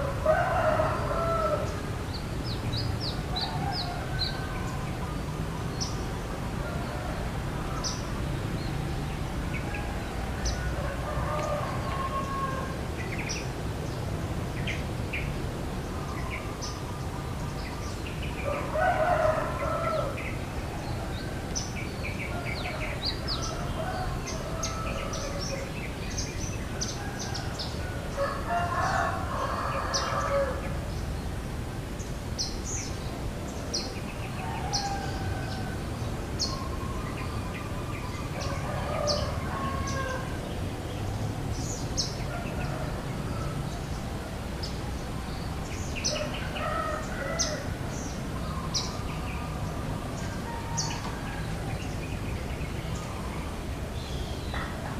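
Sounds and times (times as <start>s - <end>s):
roosters crowing: 0.0s - 2.2s, 2.8s - 13.5s, 17.6s - 31.0s, 33.5s - 53.6s.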